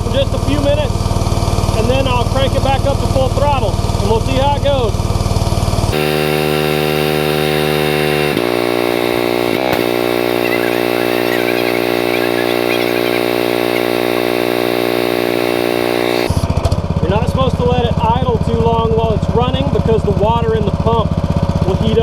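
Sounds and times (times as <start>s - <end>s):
pressure washer engine running: 0.0s - 22.0s.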